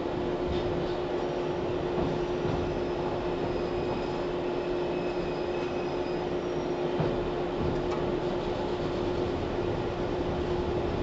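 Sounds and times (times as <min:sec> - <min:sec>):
electric train car hum: 0:00.0 - 0:11.0.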